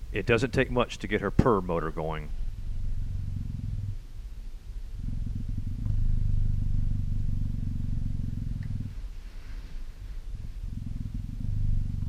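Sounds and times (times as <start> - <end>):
cheetah purring: 0.0 - 12.0.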